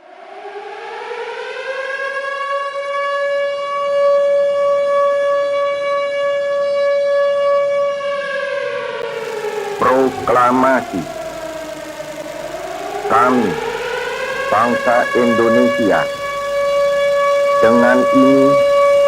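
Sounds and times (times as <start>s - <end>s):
civil defense siren wailing: 0.0s - 19.0s.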